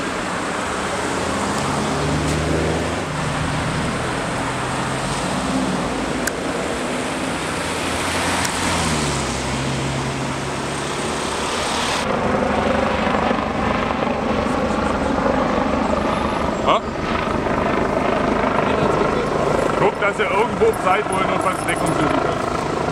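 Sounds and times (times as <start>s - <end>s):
helicopter rotor and turbine: 0.0s - 22.9s
vehicle engines humming: 0.0s - 22.9s.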